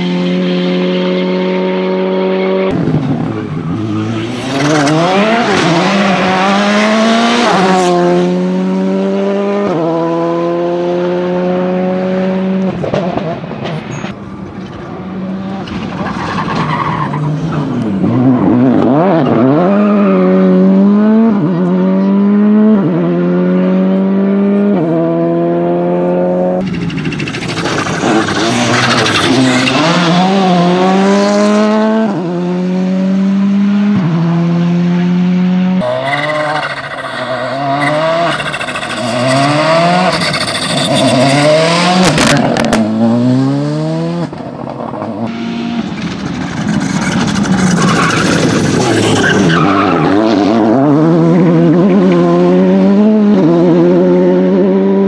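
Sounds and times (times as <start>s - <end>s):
rally car engines accelerating hard: 0.0s - 55.0s.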